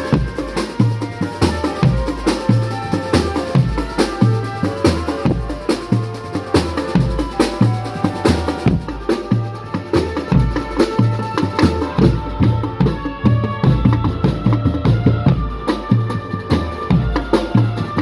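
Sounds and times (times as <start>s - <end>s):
drum band playing: 0.0s - 18.0s.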